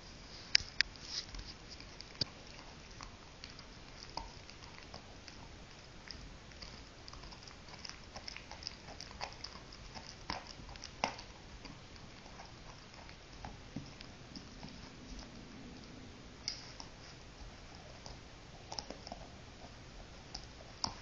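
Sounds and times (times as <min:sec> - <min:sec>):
dog gnawing on a chew: 0:00.6 - 0:21.0.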